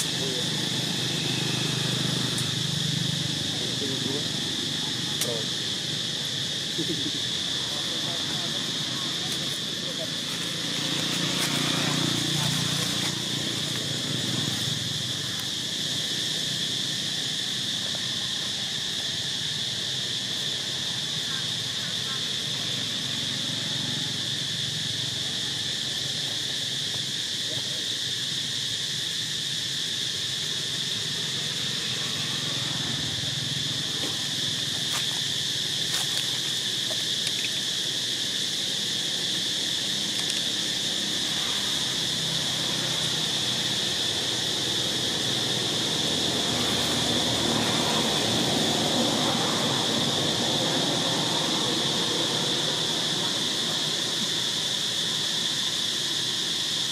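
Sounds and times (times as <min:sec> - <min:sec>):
insect chorus drone: 0:00.0 - 0:56.9.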